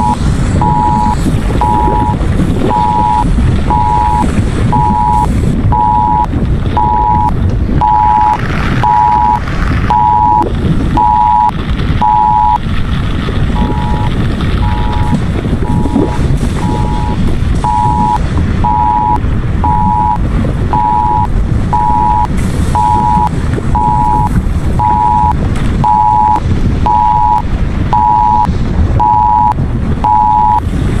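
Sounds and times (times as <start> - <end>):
two-tone alert signal beeping: 0.0 - 10.4, 11.0 - 12.6, 13.6 - 30.6
lava bubbling: 0.0 - 31.0
low volcanic rumble: 0.0 - 31.0.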